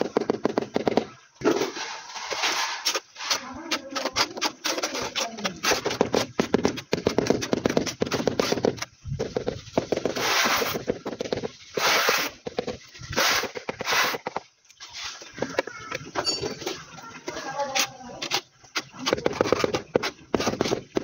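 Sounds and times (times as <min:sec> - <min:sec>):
tile scraping in adhesive: 0:00.0 - 0:15.6, 0:16.3 - 0:21.0.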